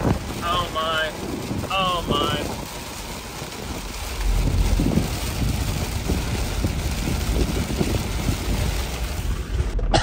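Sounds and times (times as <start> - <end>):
wind buffeting microphone: 0.0 - 9.9
gusty thumps: 0.0 - 10.0
heavy rain: 0.0 - 10.0
low road rumble: 0.0 - 10.0.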